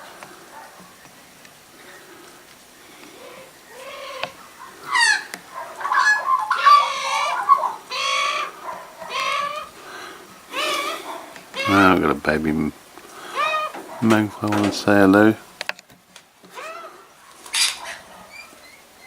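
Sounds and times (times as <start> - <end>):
birds giving harsh calls: 0.0 - 15.7, 16.4 - 19.0.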